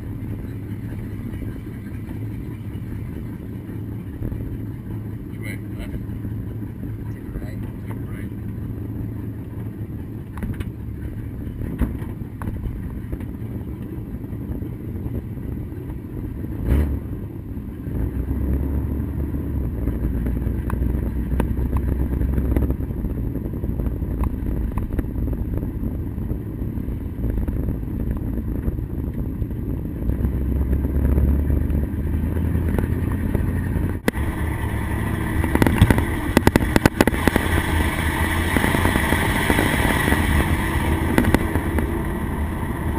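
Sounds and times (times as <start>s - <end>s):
road noise: 0.0s - 42.9s
truck engine hum: 0.0s - 42.9s.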